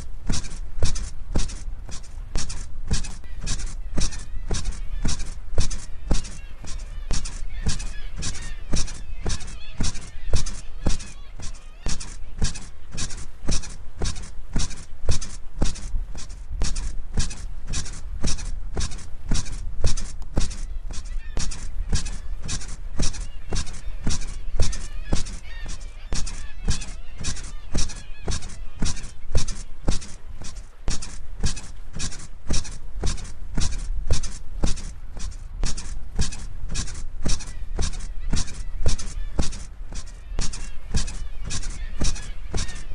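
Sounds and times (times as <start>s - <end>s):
bed springs squeaking: 0.0s - 42.9s
low steady rumble: 0.0s - 42.9s.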